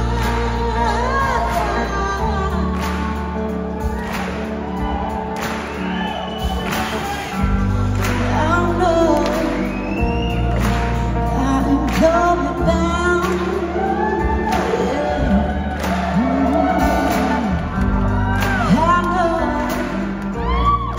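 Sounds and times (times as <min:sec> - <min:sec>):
live rock band with singing: 0:00.0 - 0:20.9.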